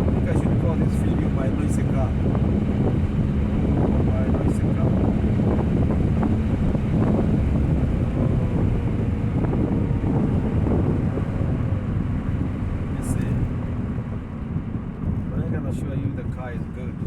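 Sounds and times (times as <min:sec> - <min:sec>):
car engine with loud exhaust: 0:00.0 - 0:17.0
road noise: 0:00.0 - 0:17.0
wind noise: 0:00.0 - 0:17.0.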